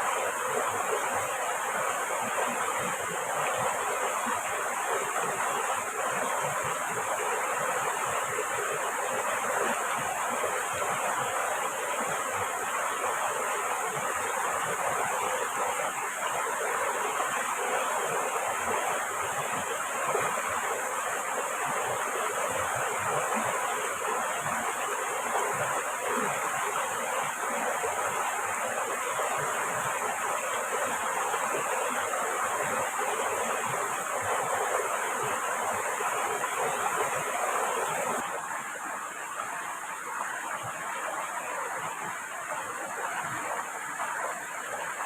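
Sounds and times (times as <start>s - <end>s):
water rushing: 0.0s - 45.0s.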